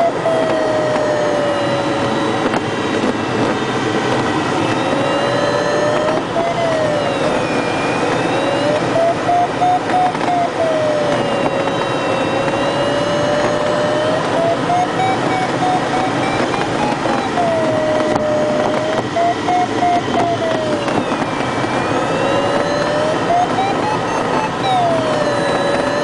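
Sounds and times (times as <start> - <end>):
variometer beeping tone: 0.0 - 26.0.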